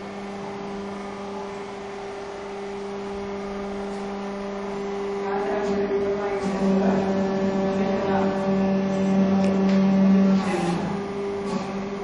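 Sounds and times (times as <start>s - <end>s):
hydraulic press motor humming: 0.0s - 12.0s.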